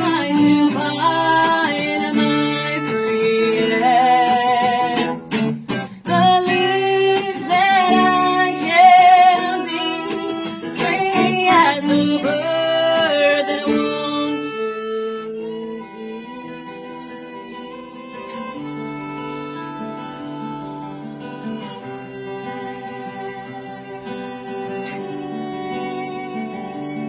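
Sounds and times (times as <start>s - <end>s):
acoustic guitar chords: 0.0s - 27.0s.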